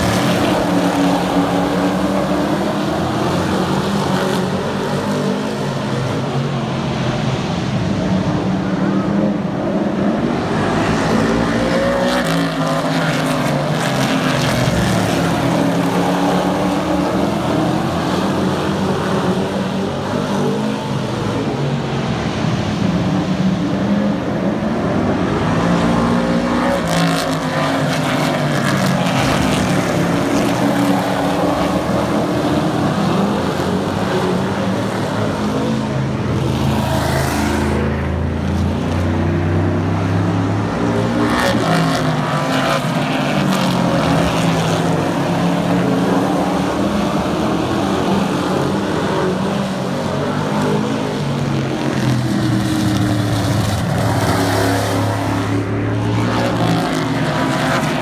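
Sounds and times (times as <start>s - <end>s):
racing truck engines droning: 0.0s - 58.0s.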